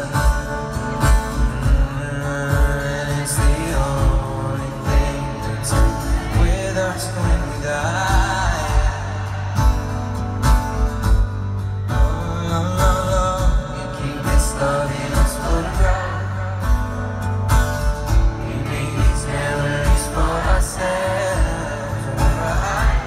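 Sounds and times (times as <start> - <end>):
person singing: 0.0 - 10.0, 11.9 - 17.0, 18.3 - 23.0
live acoustic guitar pop music: 0.0 - 23.0.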